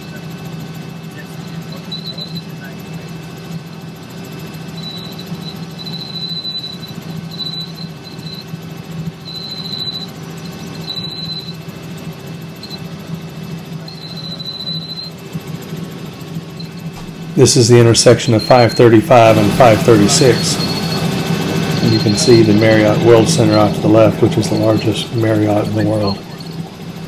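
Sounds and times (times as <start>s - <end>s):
helicopter rotor drone: 0.0s - 27.0s
thin high whine: 0.0s - 27.0s.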